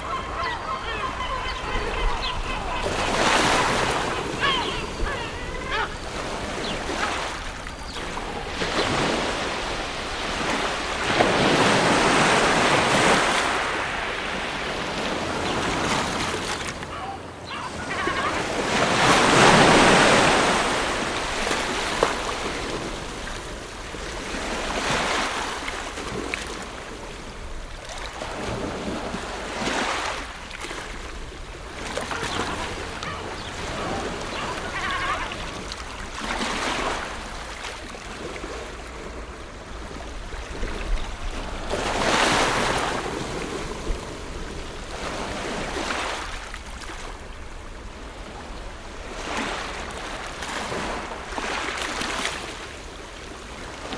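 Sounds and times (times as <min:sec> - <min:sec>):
ocean waves breaking: 0:00.0 - 0:53.9.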